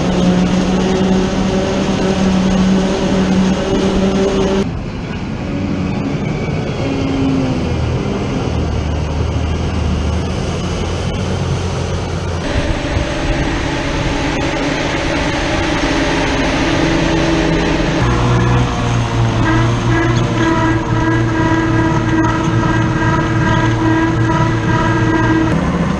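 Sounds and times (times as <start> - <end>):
heavy diesel farm machinery running: 0.0 - 25.9.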